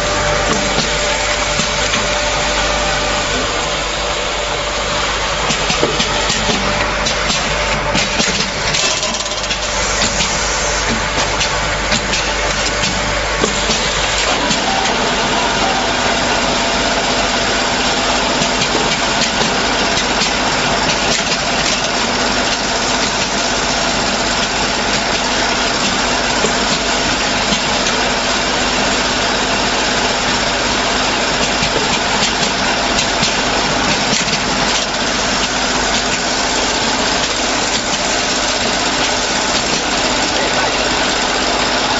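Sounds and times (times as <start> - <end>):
packaging machine running: 0.0 - 41.9.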